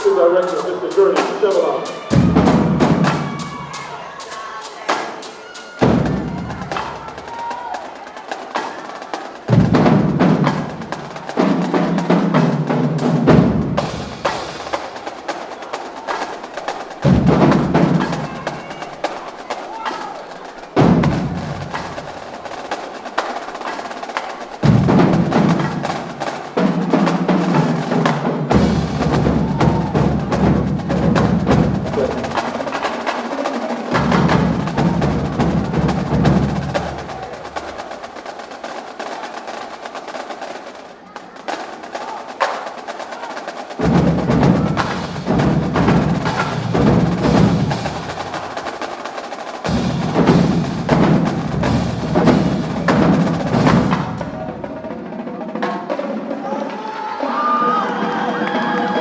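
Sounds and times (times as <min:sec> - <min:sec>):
snare drum strokes: 0:00.0 - 0:56.9.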